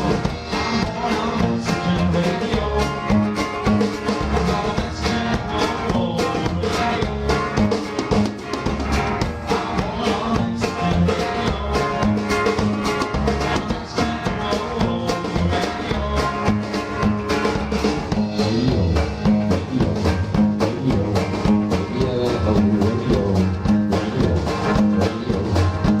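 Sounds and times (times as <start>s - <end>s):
drum kit beat: 0.0s - 26.0s
rock band music: 0.0s - 26.0s.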